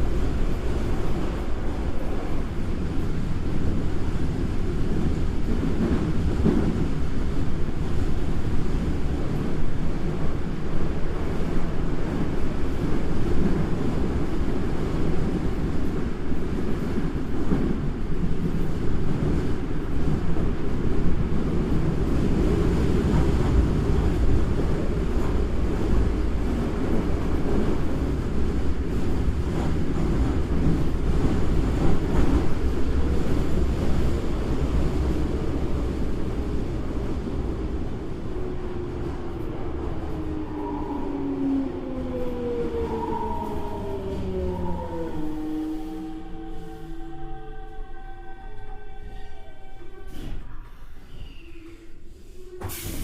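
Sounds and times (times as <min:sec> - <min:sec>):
subway train wheels rumbling on rail: 0:00.0 - 0:53.0.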